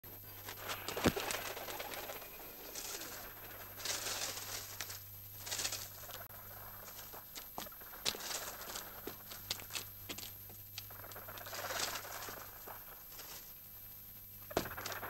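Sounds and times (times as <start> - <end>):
rustling: 0.1 - 15.0
pigeons cooing: 0.4 - 9.9, 10.8 - 13.4.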